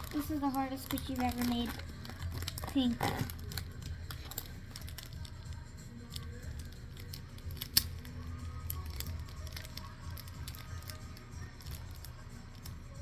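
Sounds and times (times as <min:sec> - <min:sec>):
scissors snipping paper: 0:00.0 - 0:13.0.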